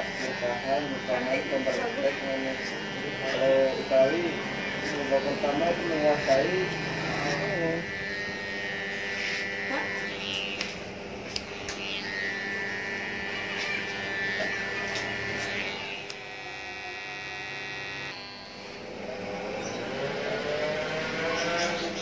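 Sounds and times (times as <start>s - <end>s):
electric hair clippers buzzing: 0.0s - 22.0s.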